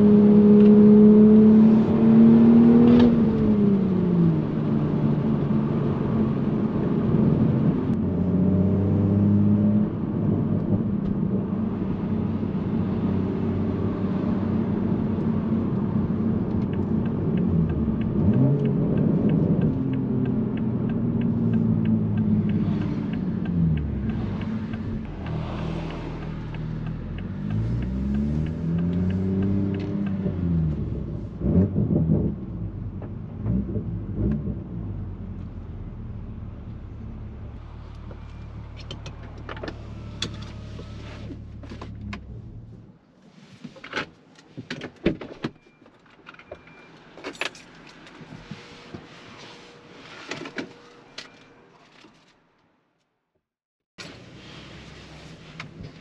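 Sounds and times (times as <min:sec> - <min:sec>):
car engine and exhaust while driving: 0:00.0 - 0:51.4, 0:54.0 - 0:56.0.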